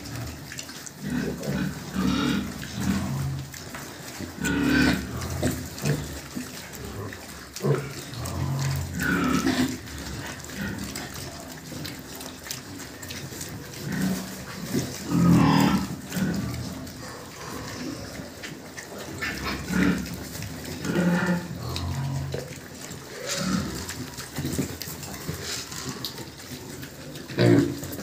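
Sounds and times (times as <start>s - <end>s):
pig high-pitched calls: 0.0s - 28.0s
pigs grunting: 0.0s - 28.0s.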